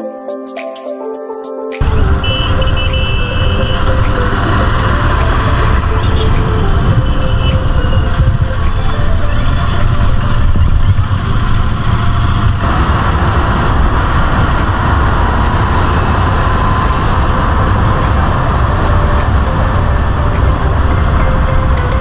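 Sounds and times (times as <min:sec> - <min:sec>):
motorcycle engine drone: 0:01.8 - 0:22.0
wind rushing over microphone: 0:01.8 - 0:22.0.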